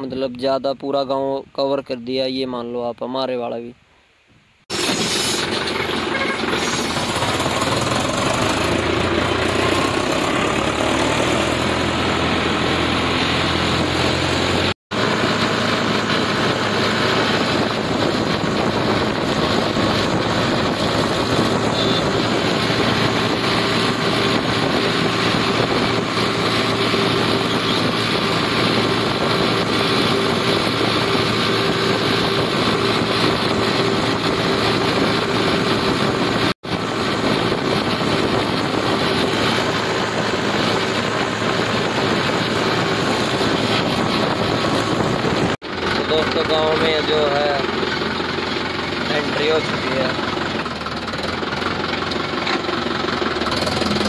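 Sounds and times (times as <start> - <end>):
tractor diesel engine running: 4.7 - 54.0.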